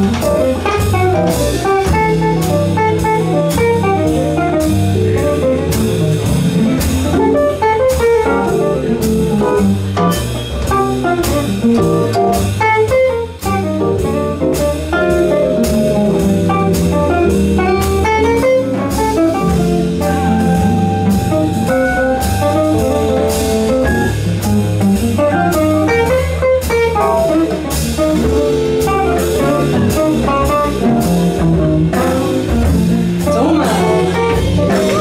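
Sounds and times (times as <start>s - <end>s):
jazz band playing swing: 0.0s - 35.0s.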